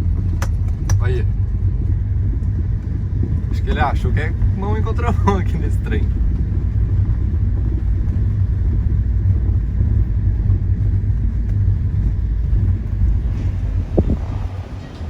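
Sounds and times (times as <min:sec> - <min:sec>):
car rumbling on the move: 0:00.0 - 0:15.0.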